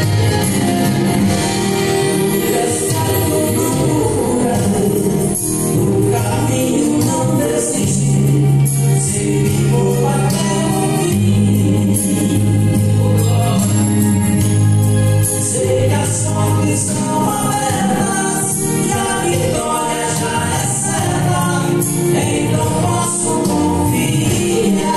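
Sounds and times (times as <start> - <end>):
amplified backing music: 0.0 - 24.9
man singing gospel song: 2.1 - 14.2, 15.3 - 24.9.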